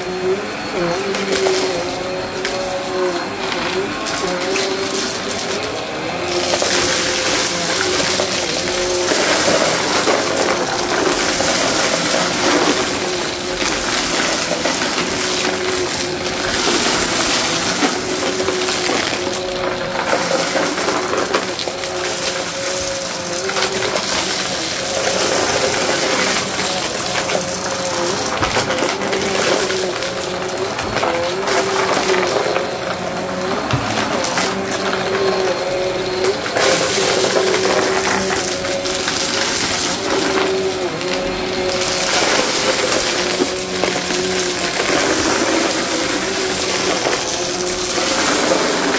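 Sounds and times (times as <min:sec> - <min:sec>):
debris rattling into vacuum: 0:00.0 - 0:48.9
vacuum motor hum: 0:00.0 - 0:48.9.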